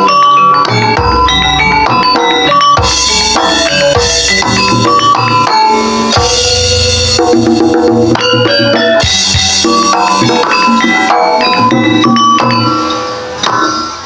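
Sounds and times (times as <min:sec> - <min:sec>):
quick melodic notes: 0:00.0 - 0:14.0
heavy drumming: 0:00.7 - 0:14.0.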